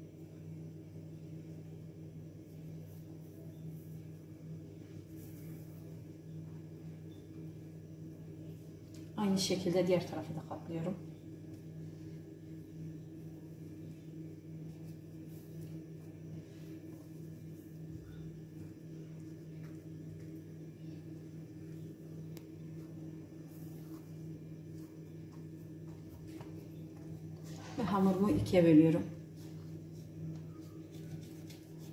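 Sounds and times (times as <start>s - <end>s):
low multi-tone hum: 0.0s - 31.9s.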